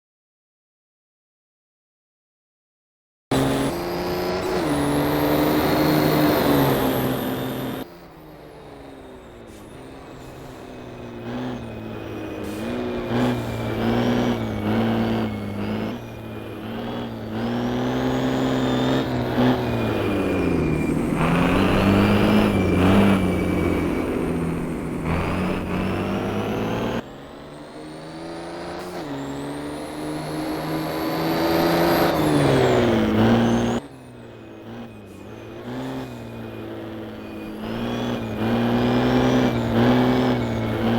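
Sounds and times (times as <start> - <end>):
diesel truck engines revving: 3.3 - 40.9.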